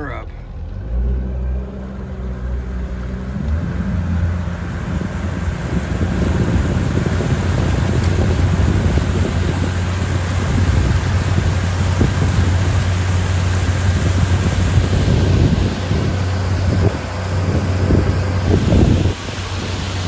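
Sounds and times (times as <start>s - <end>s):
outboard motor running: 0.0s - 20.0s
rush of wind and water: 3.4s - 20.0s.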